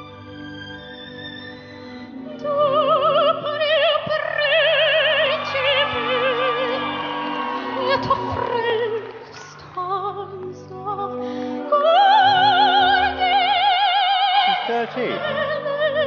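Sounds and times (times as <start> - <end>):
orchestral accompaniment: 0.0 - 16.0
girl singing operatic style: 2.2 - 16.0.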